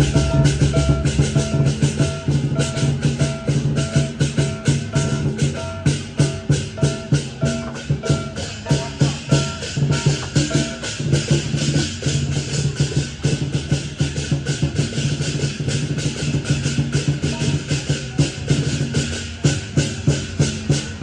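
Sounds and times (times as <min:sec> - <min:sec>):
music with fast percussive beat: 0:00.0 - 0:21.0.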